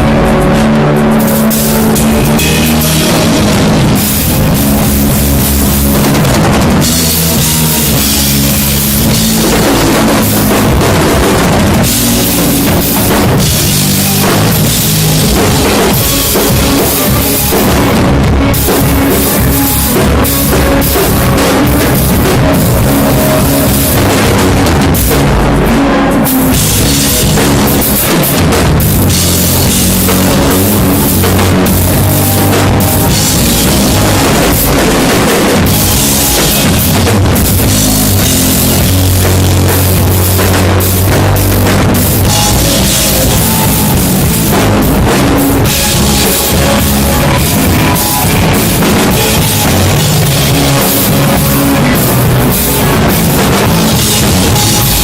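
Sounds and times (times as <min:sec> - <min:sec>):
drum kit beat: 0:00.0 - 0:55.0
live rock band playing: 0:00.0 - 0:55.0.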